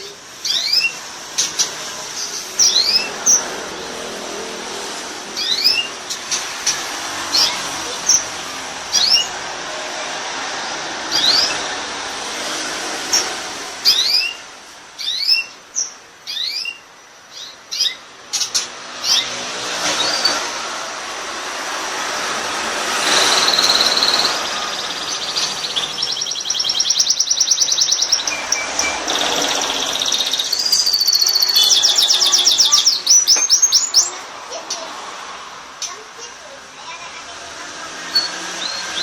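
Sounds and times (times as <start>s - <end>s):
canary singing: 0.0s - 9.8s, 10.9s - 11.9s, 13.0s - 20.4s, 22.8s - 35.0s, 38.0s - 39.0s.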